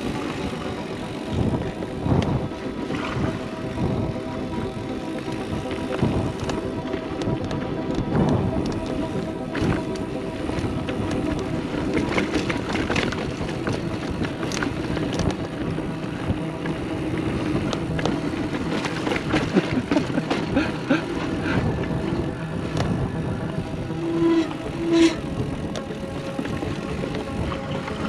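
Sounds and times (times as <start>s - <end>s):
bike rattling and clicking: 0.0s - 28.0s
bike tyres rolling over dirt: 0.0s - 28.0s
wind on microphone: 0.0s - 28.0s.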